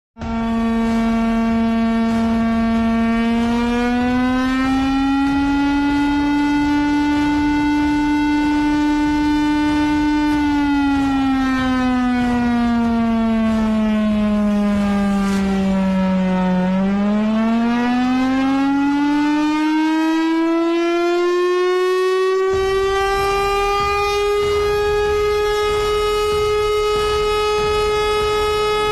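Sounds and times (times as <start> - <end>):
air raid siren wailing: 0.2 - 28.9.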